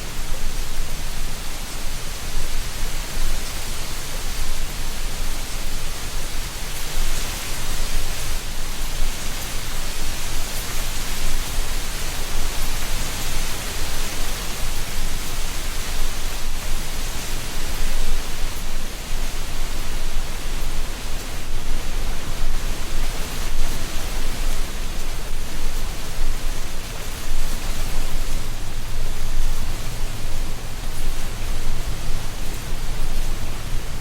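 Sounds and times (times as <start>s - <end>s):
wind rustling dry leaves: 0.0s - 34.0s.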